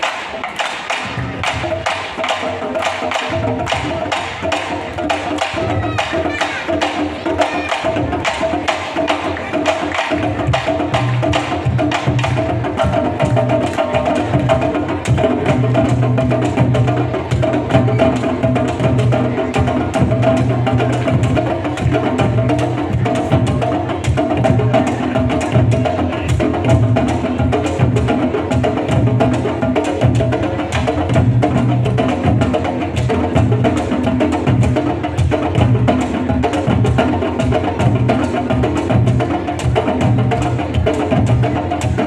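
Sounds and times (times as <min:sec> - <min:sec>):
hand drums playing: 0:00.0 - 0:42.0.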